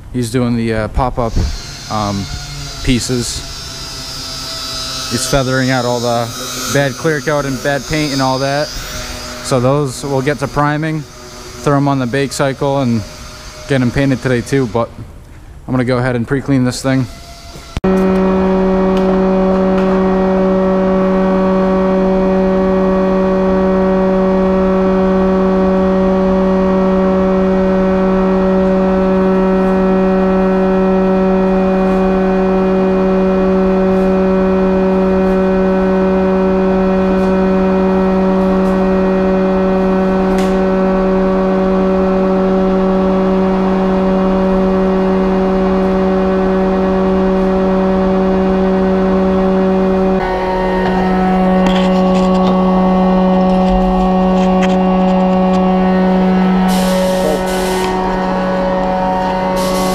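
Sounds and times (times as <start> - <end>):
loud steady hum: 0.0 - 59.9.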